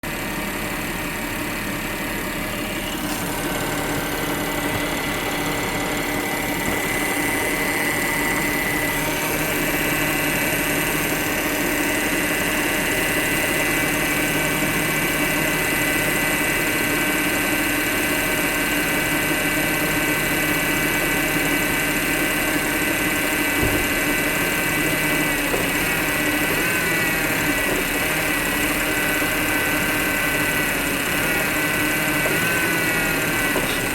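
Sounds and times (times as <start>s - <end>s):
car engine running with whine: 0.0s - 33.9s.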